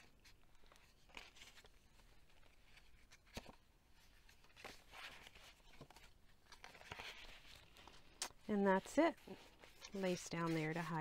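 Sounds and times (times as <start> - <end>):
paper rustling and sliding: 0.0 - 11.0.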